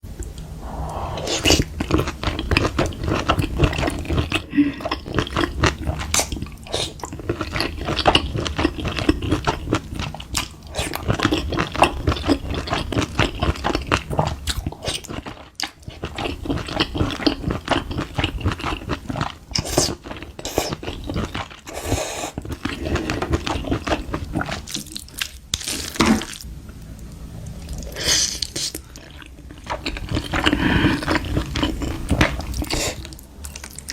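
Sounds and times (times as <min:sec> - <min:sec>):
person chewing crunchy food: 0:00.8 - 0:33.9.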